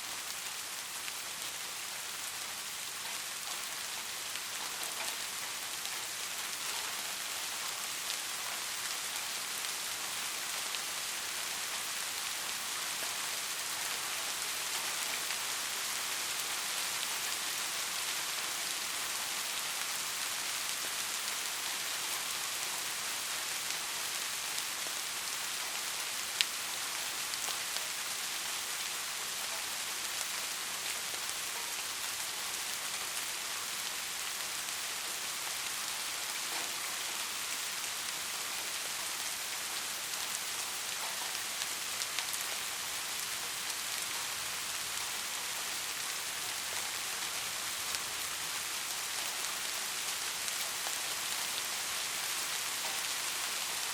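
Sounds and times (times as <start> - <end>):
soft rain falling: 0.0 - 53.9.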